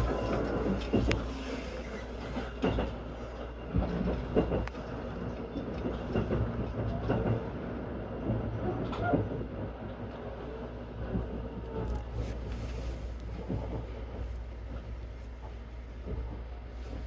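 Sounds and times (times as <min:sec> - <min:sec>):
train low rumble: 0:00.0 - 0:17.0
wheels clicking over rail joints: 0:00.0 - 0:17.0.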